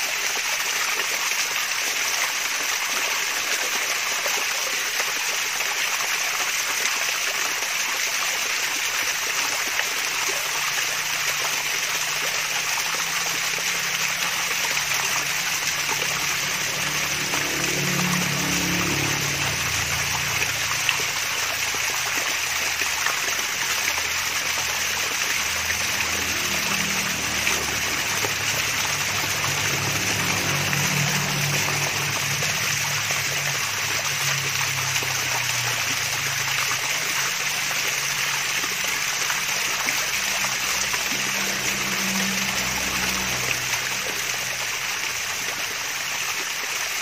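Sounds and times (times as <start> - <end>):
small waterfall splashing: 0.0 - 47.0
water gurgling: 0.0 - 47.0.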